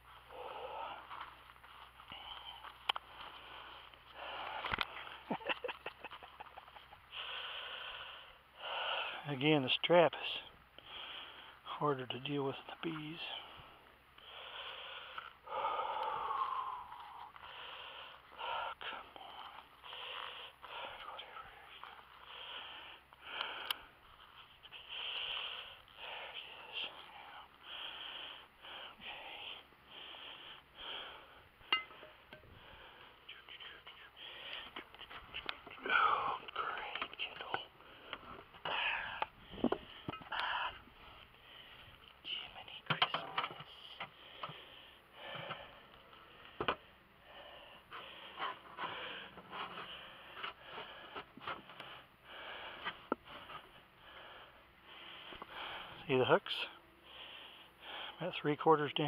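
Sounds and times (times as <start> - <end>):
person breathing heavily: 0.0 - 5.3, 6.8 - 9.3, 10.4 - 11.7, 13.2 - 42.6, 44.0 - 58.2.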